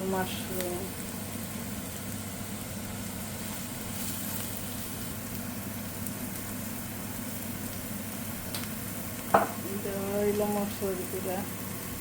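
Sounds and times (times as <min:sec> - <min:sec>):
mushrooms sizzling in oil: 0:00.0 - 0:12.0
steady low hum: 0:00.0 - 0:12.0.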